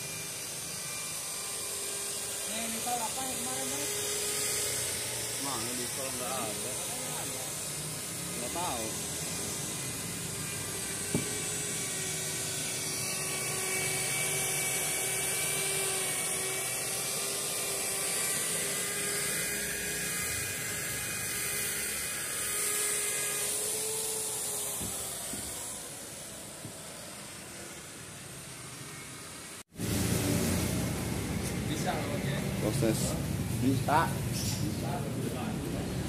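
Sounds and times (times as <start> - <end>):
rotary polisher motor whine: 0.0 - 36.0.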